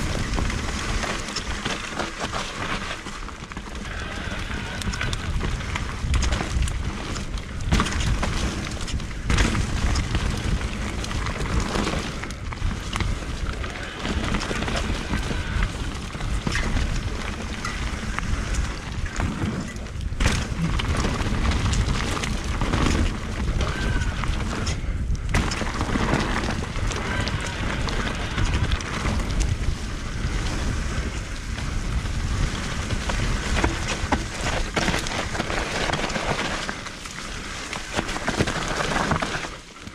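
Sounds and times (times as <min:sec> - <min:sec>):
bike knocks and rattles: 0:00.0 - 0:39.9
tyres rolling over dirt: 0:00.0 - 0:39.9
wind buffeting microphone: 0:03.8 - 0:37.8.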